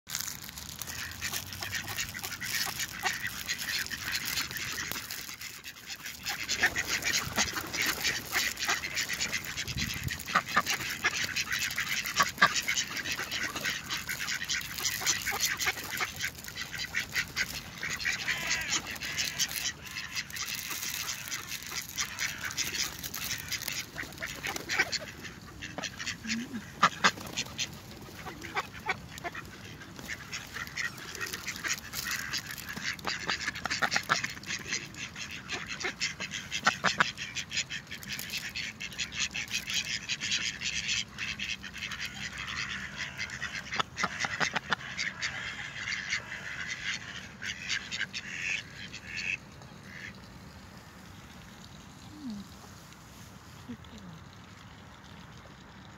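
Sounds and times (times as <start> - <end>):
ducks quacking: 0.2 - 50.3.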